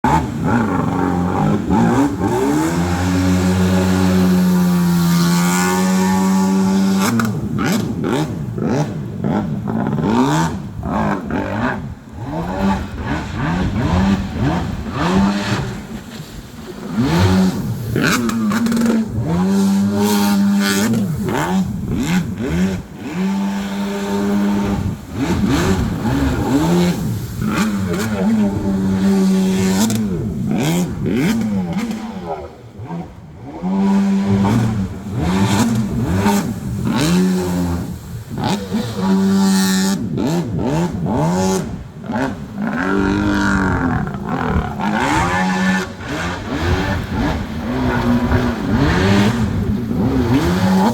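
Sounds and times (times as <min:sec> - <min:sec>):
small boat engine revving: 0:00.0 - 0:50.9.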